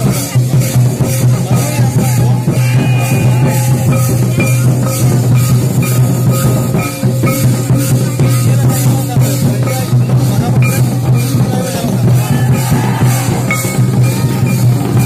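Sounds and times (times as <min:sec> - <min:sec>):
hand drums beating: 0:00.0 - 0:15.0
rattling percussion: 0:00.0 - 0:15.0.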